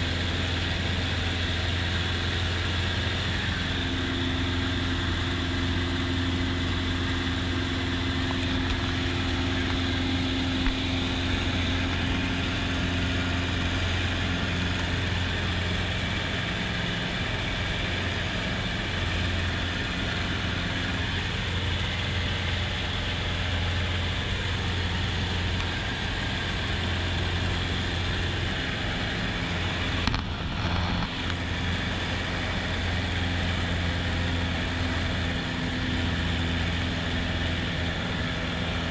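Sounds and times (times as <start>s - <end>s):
plane engine and propeller drone: 0.0s - 38.9s.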